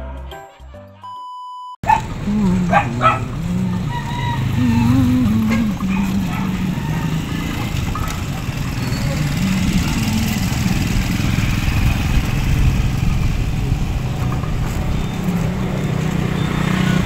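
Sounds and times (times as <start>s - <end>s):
motorcycle engine running: 1.8s - 17.0s.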